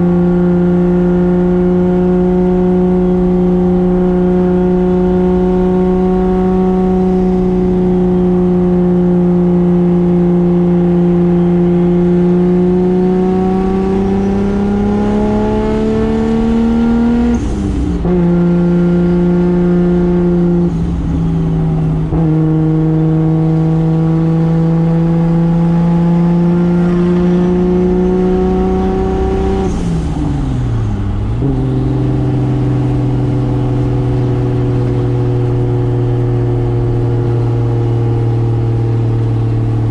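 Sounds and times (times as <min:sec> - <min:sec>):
turbo car engine accelerating: 0:00.0 - 0:39.9.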